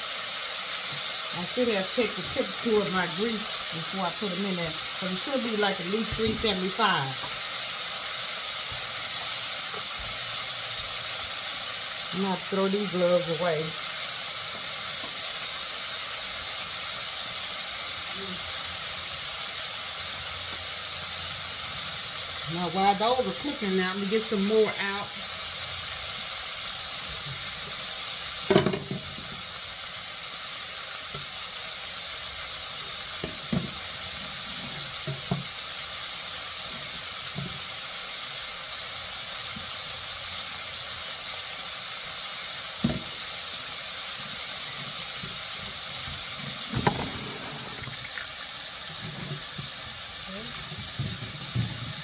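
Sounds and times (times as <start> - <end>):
food deep-frying in hot oil: 0.0 - 52.0.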